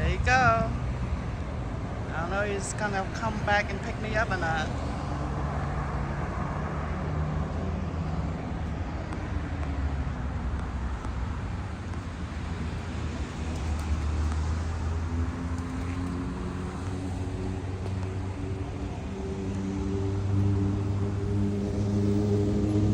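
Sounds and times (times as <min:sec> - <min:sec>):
road traffic noise: 0:00.0 - 0:22.9
vehicle engine humming: 0:00.0 - 0:22.9.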